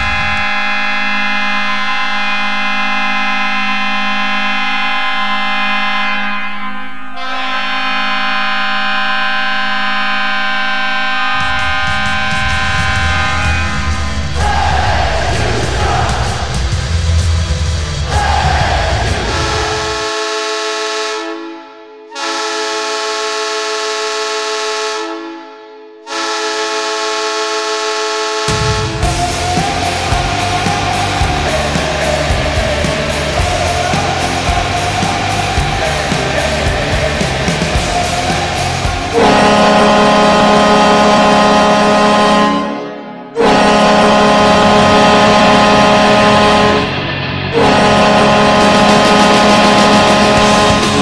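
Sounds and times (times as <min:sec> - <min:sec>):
arena goal horn blast: 0:00.0 - 0:16.6, 0:19.1 - 0:31.0, 0:37.1 - 0:51.0.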